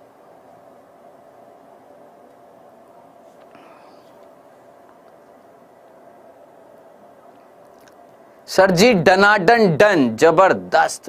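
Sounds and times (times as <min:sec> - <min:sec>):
faint hum: 0:00.0 - 0:11.0
steady low hiss: 0:00.0 - 0:11.0.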